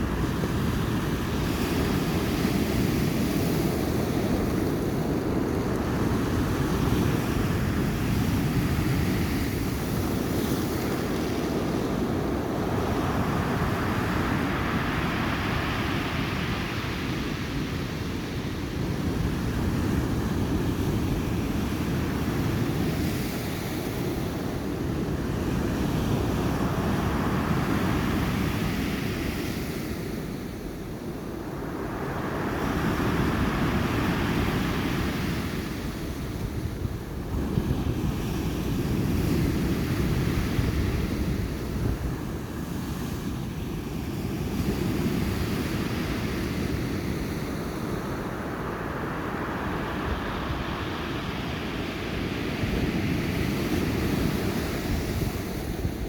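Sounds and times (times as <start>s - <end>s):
surf breaking and washing ashore: 0.0s - 56.0s
wind rumbling on microphone: 0.0s - 56.0s.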